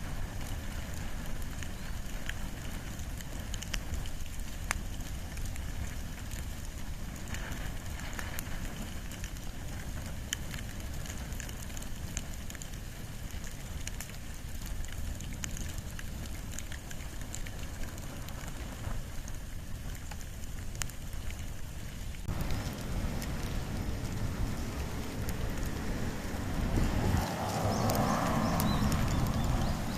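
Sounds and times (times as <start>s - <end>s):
fire crackling and popping: 0.0s - 29.9s
low rumble of flame: 0.0s - 29.9s.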